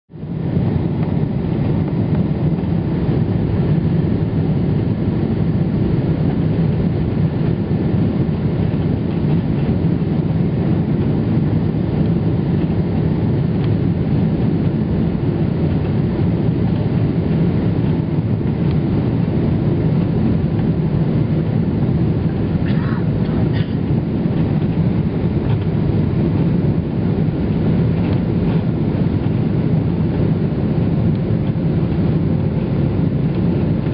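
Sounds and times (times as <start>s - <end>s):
airliner cabin engine rumble: 0.1s - 33.9s.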